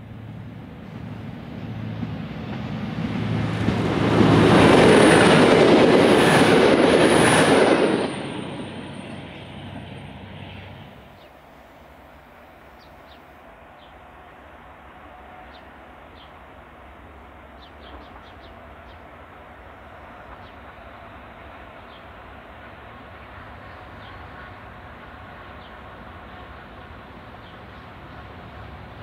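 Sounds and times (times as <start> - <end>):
train engine drone: 0.0 - 29.0
wheels rushing on rail: 0.0 - 29.0.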